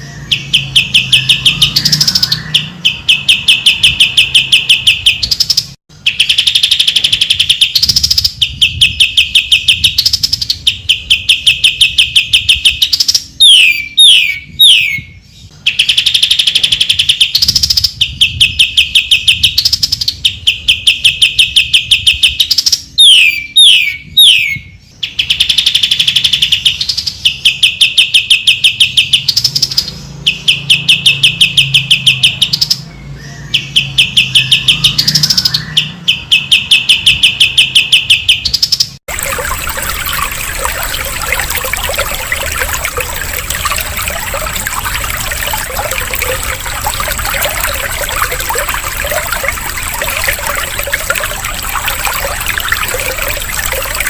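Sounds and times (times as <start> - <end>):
bird singing rapid high notes: 0.0 - 54.0.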